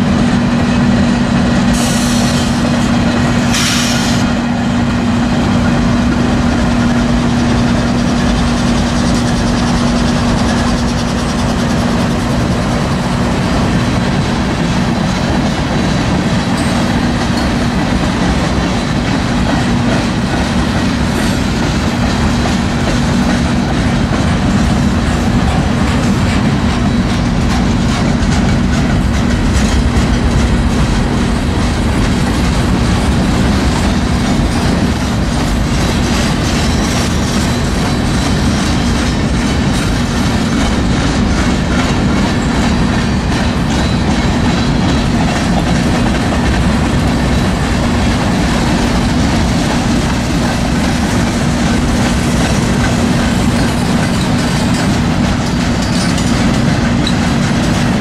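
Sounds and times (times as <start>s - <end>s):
steel wheels rumbling on rail: 0.0s - 58.0s
wheels clickety-clack: 0.0s - 58.0s.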